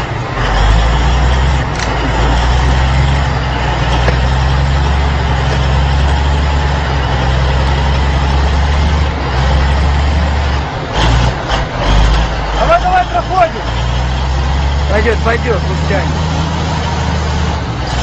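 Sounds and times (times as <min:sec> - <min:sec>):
heavy engine running steadily: 0:00.0 - 0:18.0.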